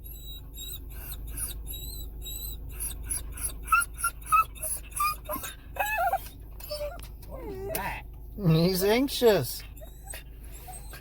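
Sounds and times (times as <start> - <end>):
dog whining: 0.0 - 8.1, 9.6 - 11.0
low engine-like hum: 0.0 - 11.0.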